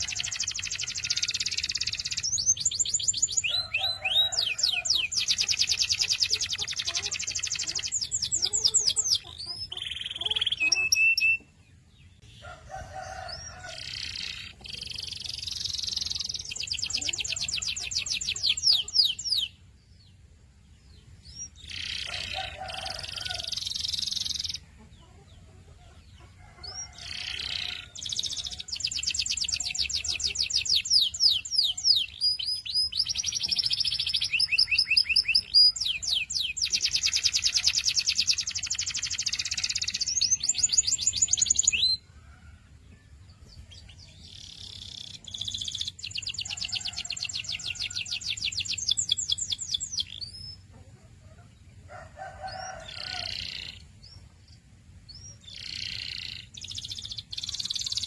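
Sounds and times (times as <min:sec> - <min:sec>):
canary singing trills: 0:00.0 - 0:42.4, 0:43.3 - 0:58.0.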